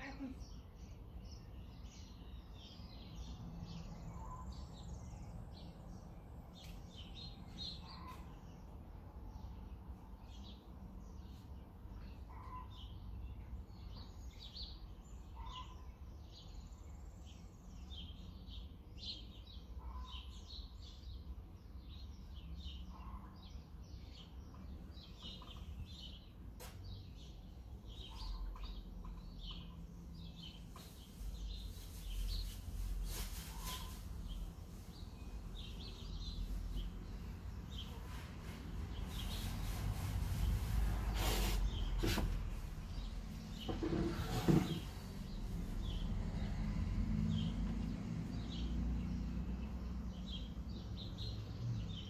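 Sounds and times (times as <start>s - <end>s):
songbirds chirping and singing: 0.0s - 52.0s.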